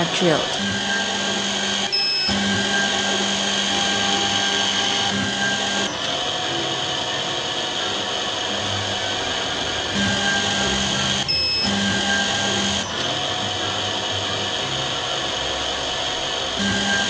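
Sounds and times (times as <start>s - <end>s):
drilling machine motor whir: 0.0s - 17.0s.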